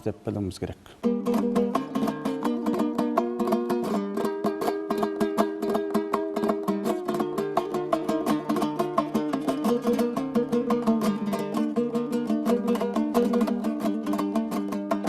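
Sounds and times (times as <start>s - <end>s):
plucked string instrument: 0.9s - 15.0s.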